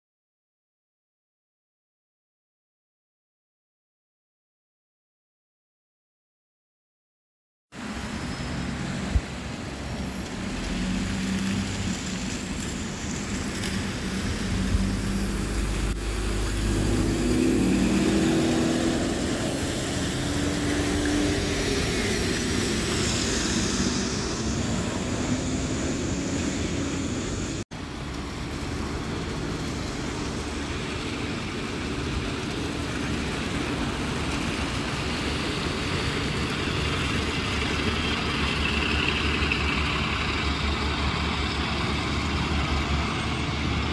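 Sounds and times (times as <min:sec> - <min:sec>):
bus engines running: 0:07.8 - 0:43.9.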